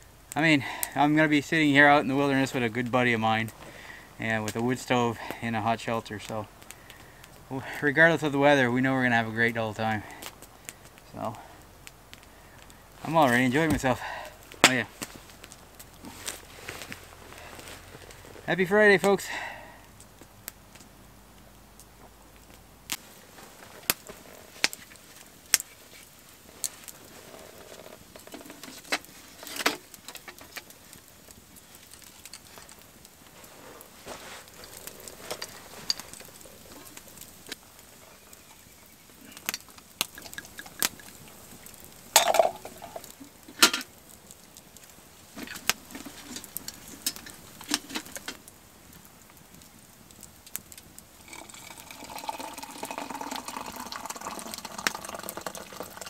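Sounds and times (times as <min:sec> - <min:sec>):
faint steady hiss: 0:00.0 - 0:56.0
wood fire crackling and popping: 0:00.0 - 0:56.0.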